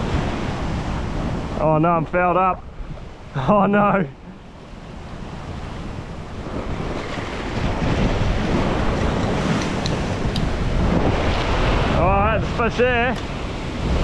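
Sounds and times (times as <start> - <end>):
waves breaking against rocks: 0.0 - 14.0
wind buffeting microphone: 0.0 - 14.0.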